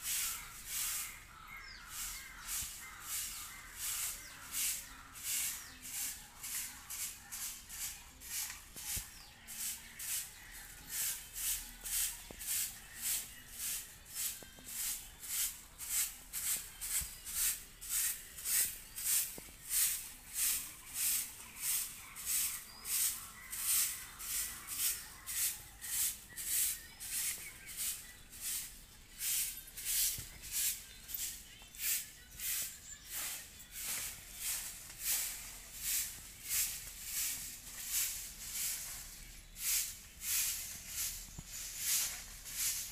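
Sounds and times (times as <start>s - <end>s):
broom sweeping dirt: 0.0s - 42.9s.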